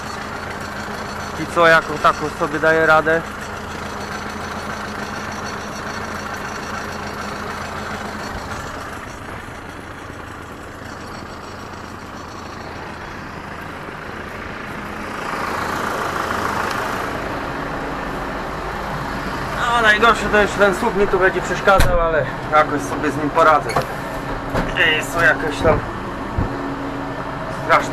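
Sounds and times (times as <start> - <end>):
tractor engine running under load: 0.0 - 27.9.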